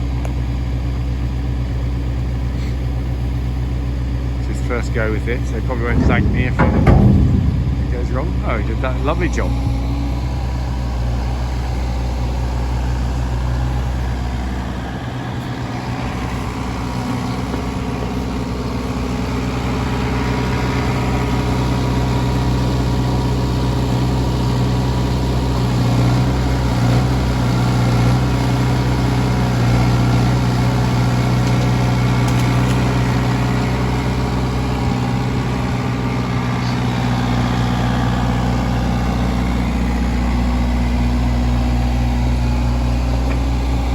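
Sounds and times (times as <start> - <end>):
mini digger diesel engine running: 0.0 - 43.9.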